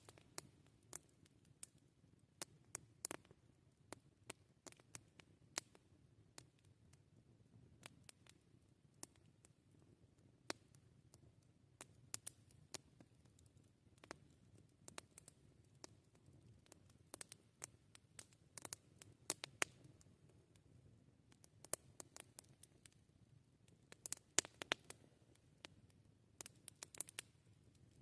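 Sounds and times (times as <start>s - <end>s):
campfire crackling: 0.0s - 28.0s
faint low background: 0.0s - 28.0s.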